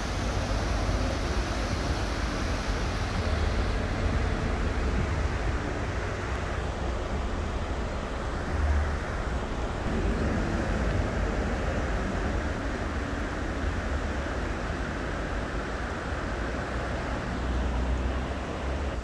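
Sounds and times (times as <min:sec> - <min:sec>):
constant low rumble: 0:00.0 - 0:19.0
river rushing around bridge piers: 0:00.0 - 0:19.0.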